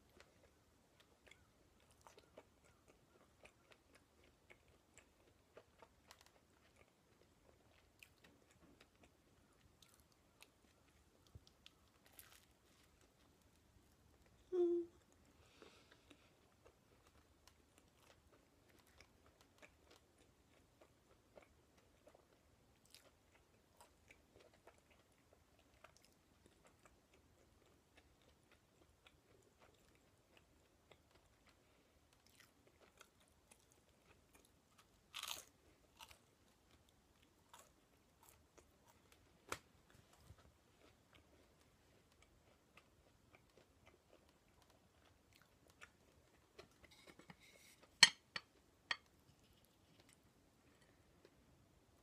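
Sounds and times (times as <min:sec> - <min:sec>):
chewing with mouth clicks: 0:00.0 - 0:14.2, 0:15.0 - 0:49.1.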